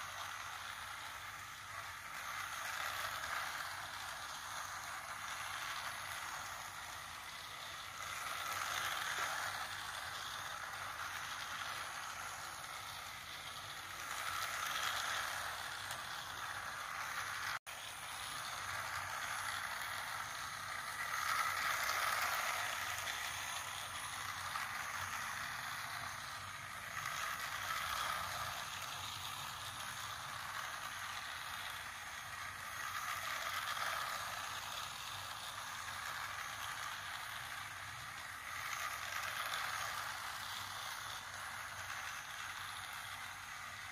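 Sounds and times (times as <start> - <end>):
toy train whirring rattle: 0.0 - 43.9.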